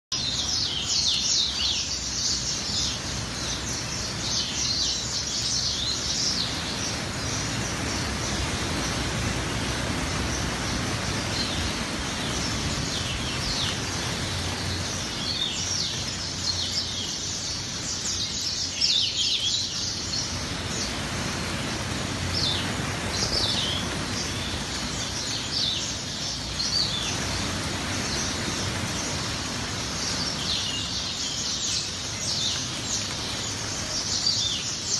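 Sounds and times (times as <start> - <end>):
flock of birds chirping: 0.1 - 34.9.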